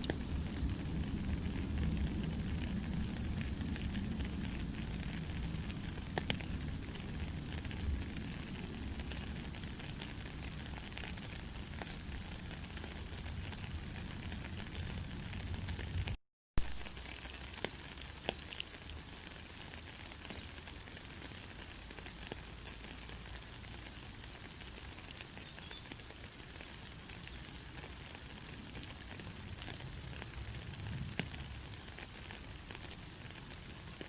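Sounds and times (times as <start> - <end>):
faint crackles and ticks: 0.0 - 34.0.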